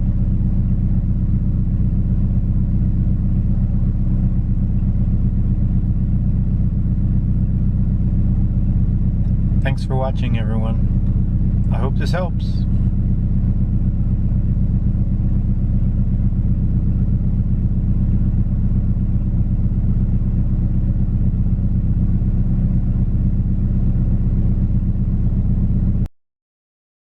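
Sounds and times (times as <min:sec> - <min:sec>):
car engine idling: 0:00.0 - 0:26.1.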